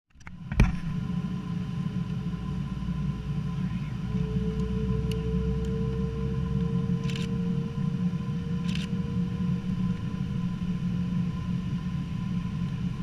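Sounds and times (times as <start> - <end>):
airliner cabin rumble: 0.2 - 13.0
faint engine tone: 0.2 - 13.0
rising tone: 0.9 - 13.0.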